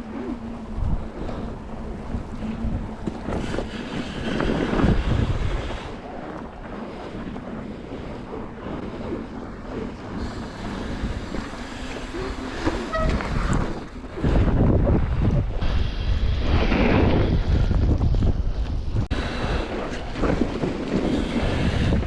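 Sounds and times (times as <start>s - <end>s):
bike tyres crunching snow: 0.0s - 22.0s
wind buffeting microphone: 0.0s - 22.0s.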